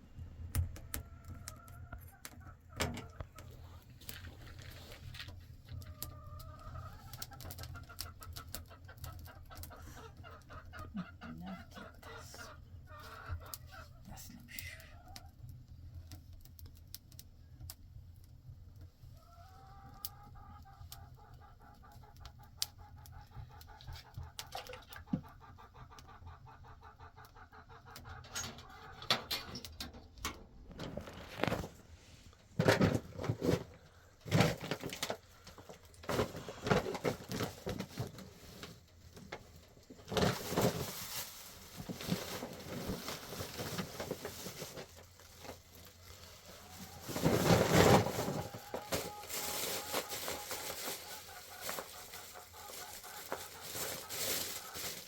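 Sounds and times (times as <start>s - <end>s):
chickens clucking: 5.7s - 15.4s, 19.2s - 31.7s, 32.6s - 55.0s.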